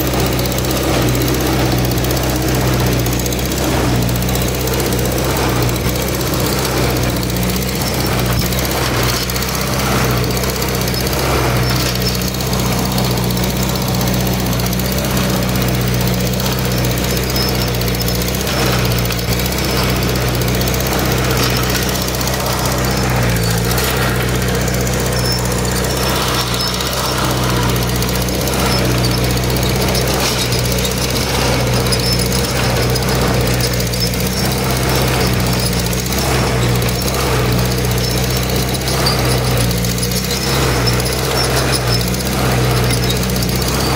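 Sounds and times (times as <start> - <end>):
tractor engine running under load: 0.0 - 43.9.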